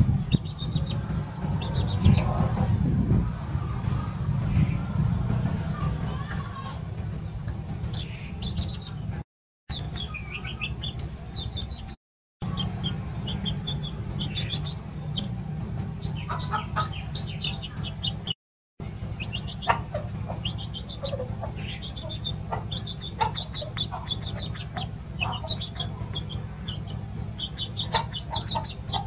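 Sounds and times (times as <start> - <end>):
chickens clucking: 0.0 - 4.9, 7.5 - 9.1, 9.7 - 18.4, 19.1 - 29.0
chickens peeping and chirping: 0.0 - 5.0, 7.3 - 18.4, 19.0 - 29.0
steady low hum: 0.0 - 6.2, 6.8 - 29.0.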